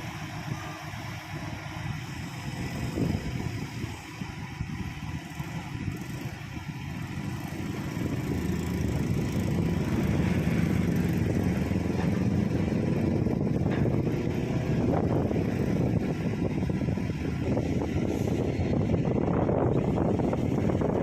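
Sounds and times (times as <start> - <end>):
large engine running: 0.0 - 21.0.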